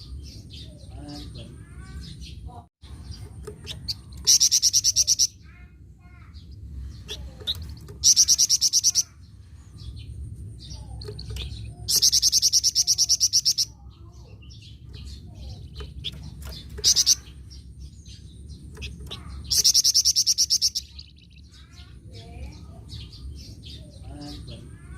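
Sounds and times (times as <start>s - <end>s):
bird chirps and twitters: 0.0s - 24.9s
songbird rattling trills: 2.9s - 24.9s.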